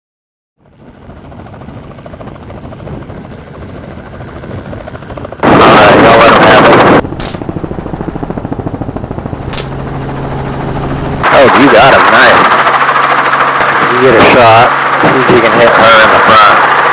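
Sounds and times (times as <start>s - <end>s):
helicopter rotor blades beating: 0.6s - 16.9s.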